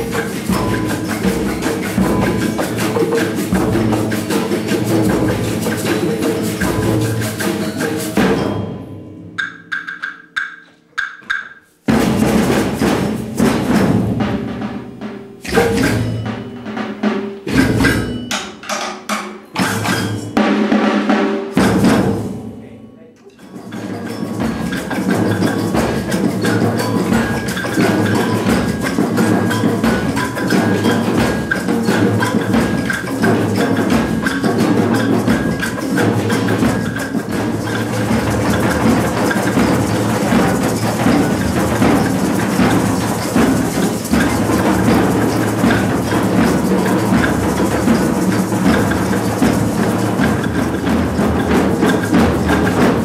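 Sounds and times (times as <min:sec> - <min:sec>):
wood block strikes: 0:00.0 - 0:14.0, 0:14.8 - 0:20.4, 0:23.3 - 0:53.0
percussion ensemble drumming: 0:00.0 - 0:53.0.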